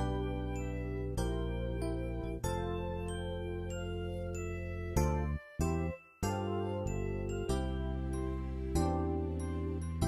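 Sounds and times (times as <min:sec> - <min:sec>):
gentle background music: 0:00.0 - 0:10.0.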